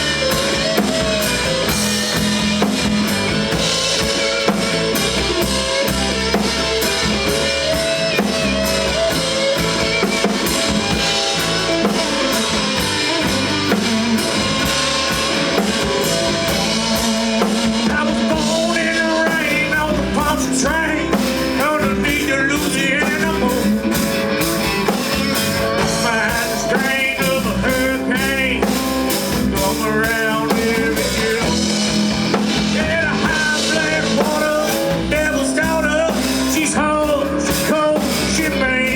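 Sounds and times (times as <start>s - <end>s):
band playing instrumental: 0.0s - 38.9s.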